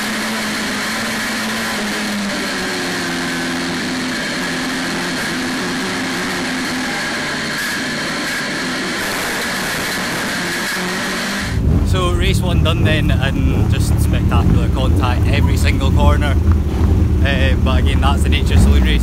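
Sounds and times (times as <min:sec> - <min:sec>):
race car engine: 0:00.0 - 0:19.0.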